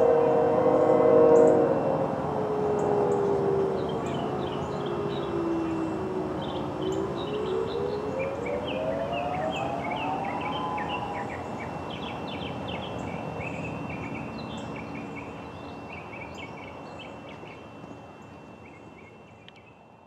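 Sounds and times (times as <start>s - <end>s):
distant dual-tone siren: 0.0s - 20.0s
thin high whine: 0.0s - 20.0s
birds chirping: 2.8s - 19.8s.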